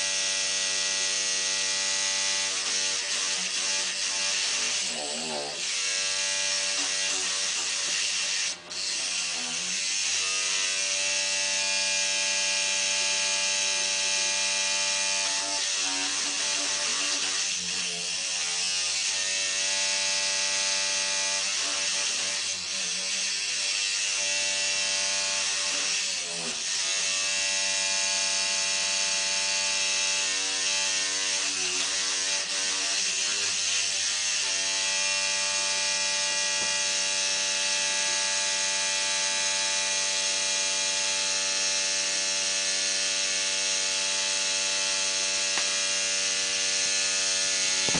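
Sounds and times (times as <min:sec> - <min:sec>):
electric toothbrush buzzing: 0:00.0 - 0:47.9.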